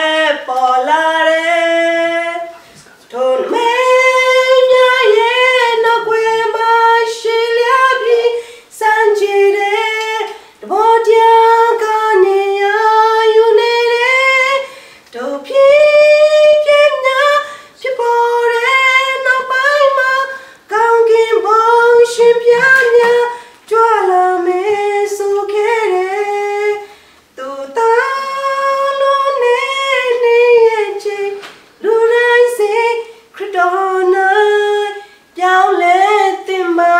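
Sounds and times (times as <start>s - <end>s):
woman singing unaccompanied: 0.0s - 36.9s.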